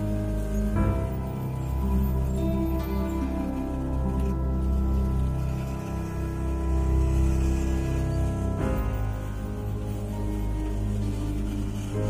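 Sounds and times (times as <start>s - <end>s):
slow sustained music chords: 0.0s - 12.0s.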